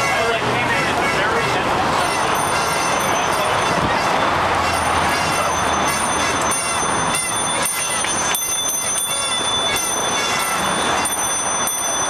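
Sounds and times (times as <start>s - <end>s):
faint voices of passers-by: 0.0s - 12.0s
street traffic: 0.0s - 12.0s.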